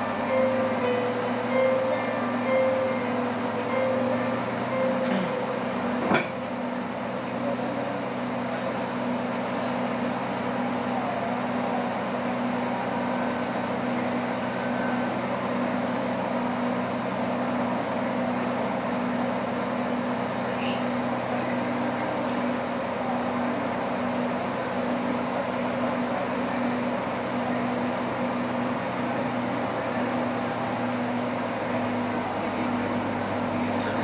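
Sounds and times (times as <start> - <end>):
railcar low hum: 0.0 - 34.0
train rolling rumble: 0.0 - 34.0.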